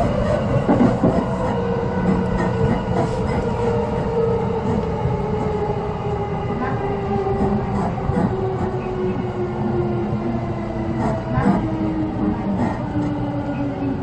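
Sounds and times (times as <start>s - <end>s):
train motor hum: 0.0s - 14.0s
train wheels rumbling on rail: 0.0s - 14.0s.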